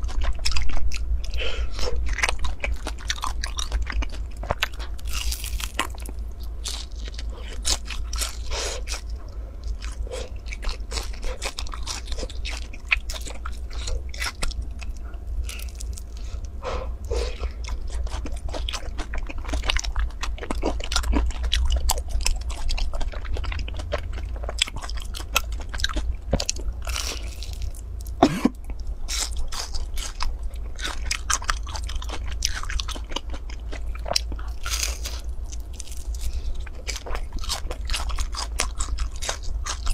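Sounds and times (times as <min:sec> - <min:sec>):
crunchy pastry biting and chewing: 0:00.0 - 0:39.9.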